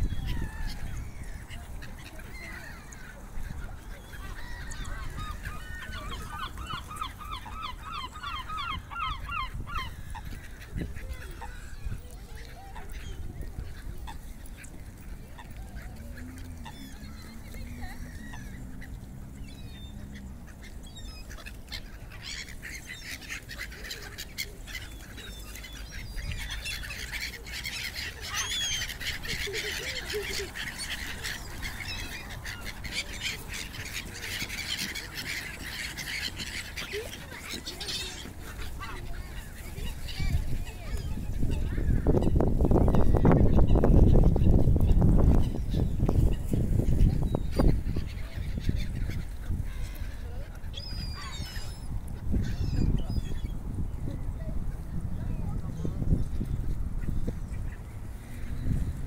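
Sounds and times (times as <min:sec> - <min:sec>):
water birds calling: 0:00.0 - 0:59.0.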